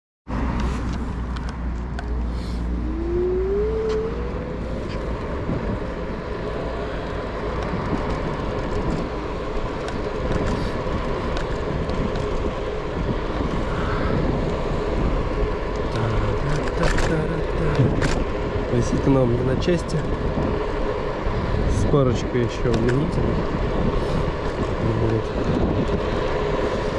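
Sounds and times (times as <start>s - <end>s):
wind rumble: 0.3s - 26.9s
electric scooter motor whine: 2.2s - 22.4s, 23.1s - 26.9s.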